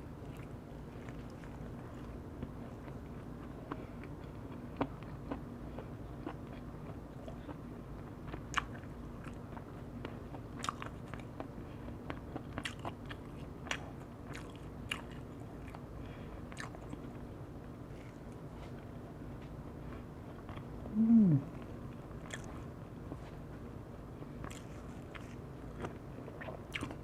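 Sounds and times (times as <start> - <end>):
steady low hum: 0.0 - 27.0
chewing and biting food: 0.2 - 20.9, 21.5 - 23.6, 24.3 - 27.0.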